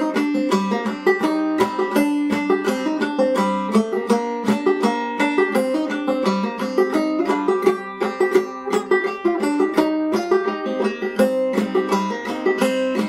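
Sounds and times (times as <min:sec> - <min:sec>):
banjo playing: 0:00.0 - 0:13.0.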